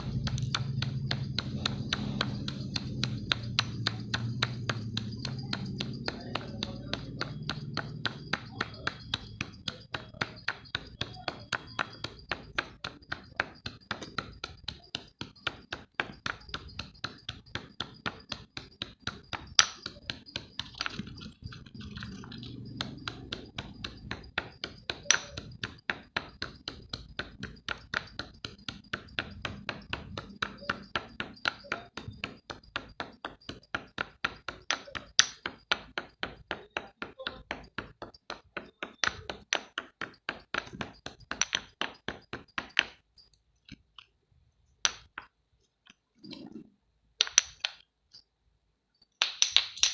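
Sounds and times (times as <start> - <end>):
hard object struck in sharp knocks: 0.0 - 42.9.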